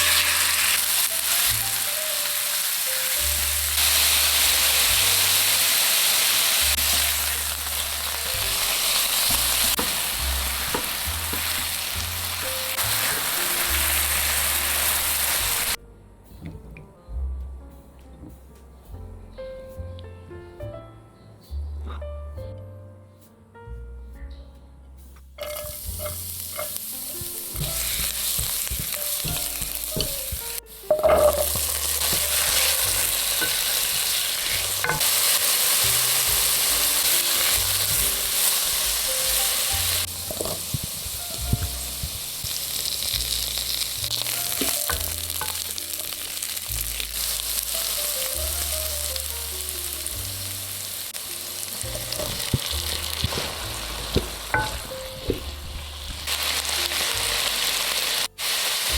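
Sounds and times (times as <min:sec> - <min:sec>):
food sizzling in a hot pan: 0:00.0 - 0:15.8, 0:25.4 - 0:58.9.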